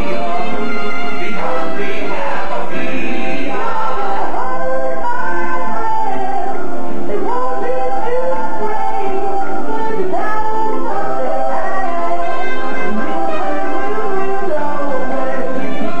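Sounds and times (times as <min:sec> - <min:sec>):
voices singing with band: 0:00.0 - 0:16.0.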